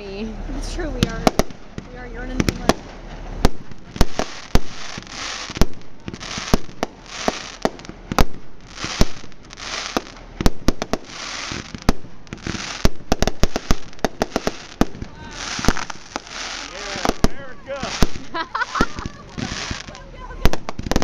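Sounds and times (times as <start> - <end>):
fireworks bangs: 0.0 - 21.0
fireworks hiss: 0.5 - 21.0.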